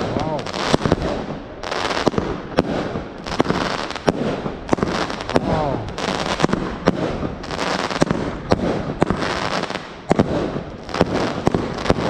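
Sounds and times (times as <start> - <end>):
fireworks bangs: 0.0 - 12.0
fireworks crackling and popping: 0.0 - 12.0.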